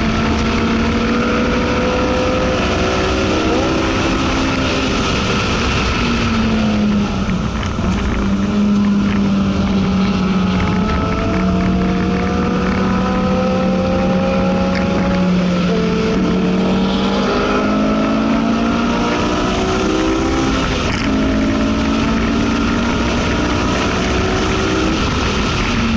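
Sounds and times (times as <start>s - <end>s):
car engine revving: 0.0s - 25.9s
wind and road noise: 0.0s - 25.9s.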